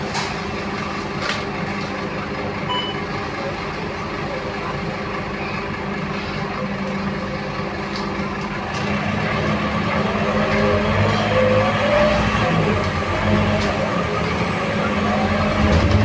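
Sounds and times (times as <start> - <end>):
bus diesel engine hum: 0.0 - 16.0.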